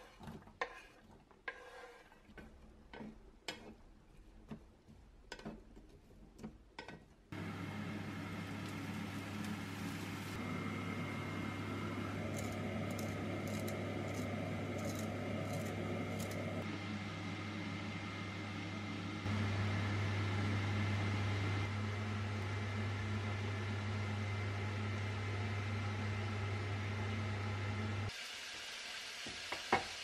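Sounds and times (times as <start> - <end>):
induction hob hum and fan: 0.0 - 30.0.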